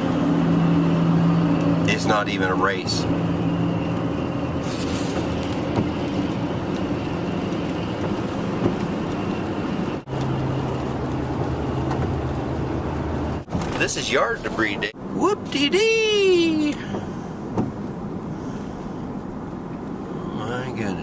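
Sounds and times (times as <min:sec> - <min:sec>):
road noise inside car: 0:00.0 - 0:21.0.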